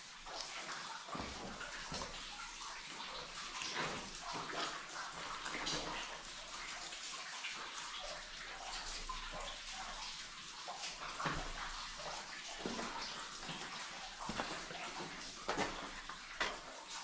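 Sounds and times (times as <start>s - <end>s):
water drips and splashes: 0.0s - 17.0s
water trickling: 0.0s - 17.0s.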